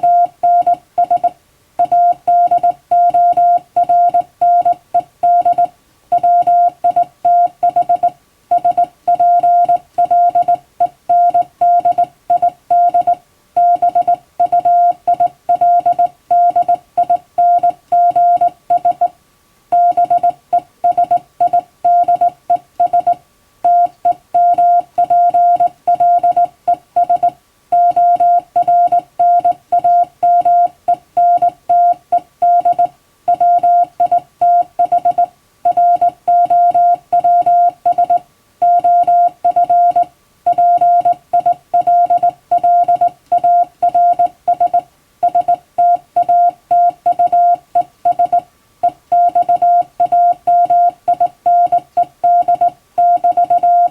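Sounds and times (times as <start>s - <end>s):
morse code beeps: 0.0s - 19.1s, 19.8s - 53.9s.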